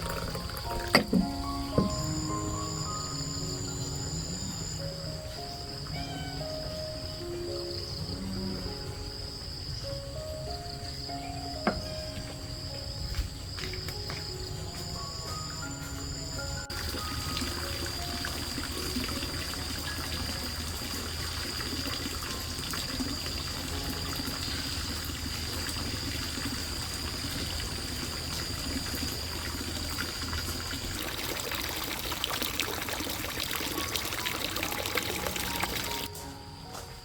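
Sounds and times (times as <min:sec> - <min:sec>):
water pouring and trickling: 0:00.0 - 0:37.0.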